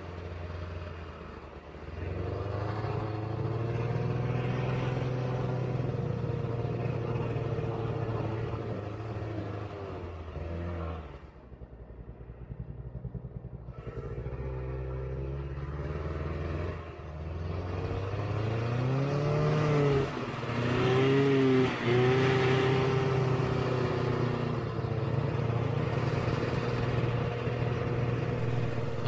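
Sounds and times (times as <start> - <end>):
snowmobile engine revving: 1.8 - 11.2, 13.7 - 29.0.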